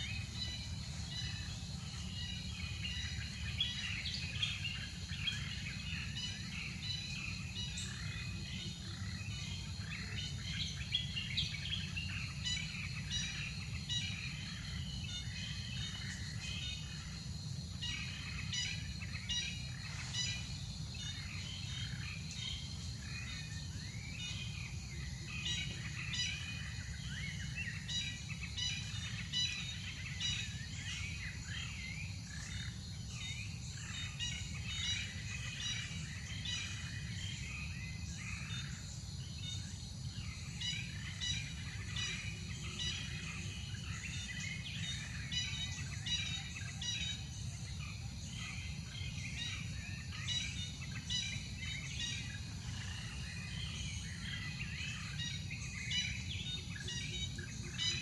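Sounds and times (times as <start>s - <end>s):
birds chirping: 0.0s - 58.0s
high insect drone: 0.0s - 58.0s.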